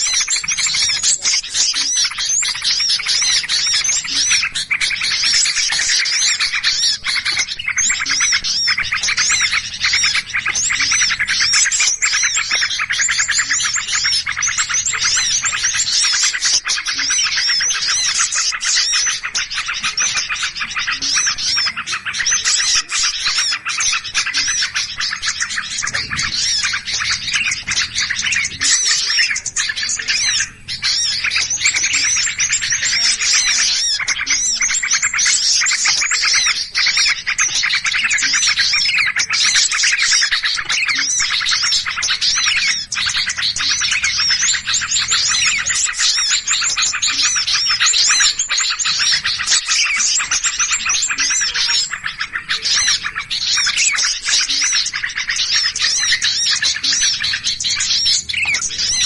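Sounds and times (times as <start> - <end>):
small birds chattering and chirping: 0.0 - 59.0.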